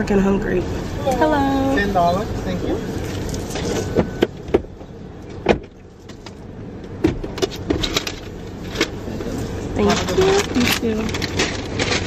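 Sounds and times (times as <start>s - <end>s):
idling car cabin hum: 0.0s - 12.0s.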